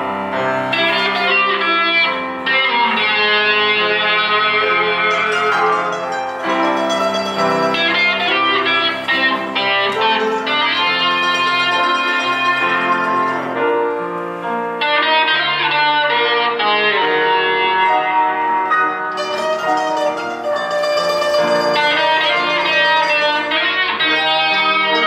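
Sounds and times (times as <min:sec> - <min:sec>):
acoustic quartet playing melody: 0:00.0 - 0:25.0
plucked guitar: 0:00.0 - 0:25.0.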